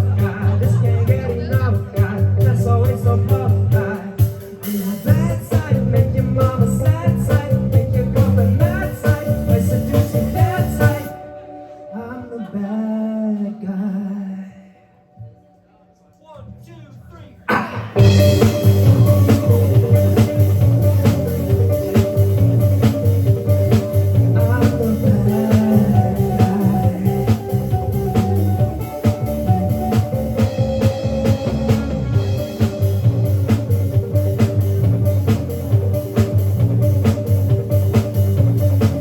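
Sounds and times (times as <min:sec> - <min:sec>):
drum kit beat: 0:00.0 - 0:11.2, 0:17.5 - 0:39.0
bass guitar: 0:00.0 - 0:11.3, 0:17.8 - 0:39.0
electric guitar: 0:00.0 - 0:13.1, 0:17.5 - 0:39.0.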